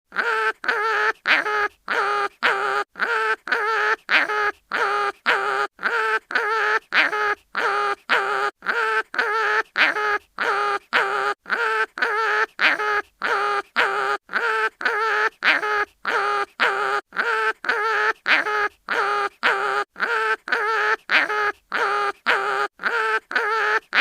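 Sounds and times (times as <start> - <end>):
cartoon animal crying in pain: 0.1 - 24.0.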